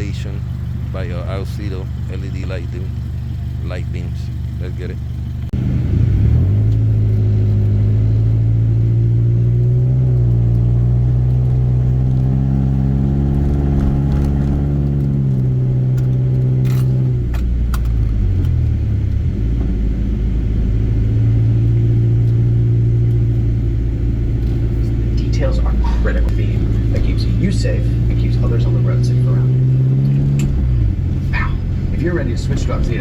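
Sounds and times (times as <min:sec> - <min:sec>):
car engine droning: 0:00.0 - 0:33.0
road rumble: 0:00.0 - 0:33.0.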